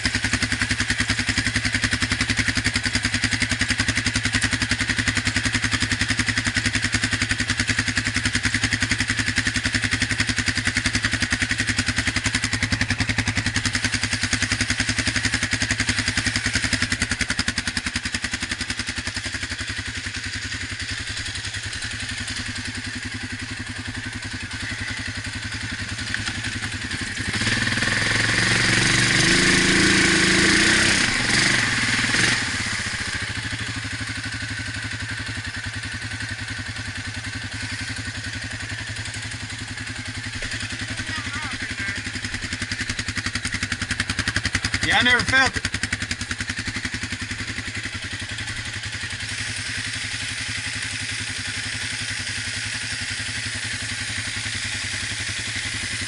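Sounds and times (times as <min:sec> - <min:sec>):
atv engine idling and revving: 0:00.0 - 0:56.0.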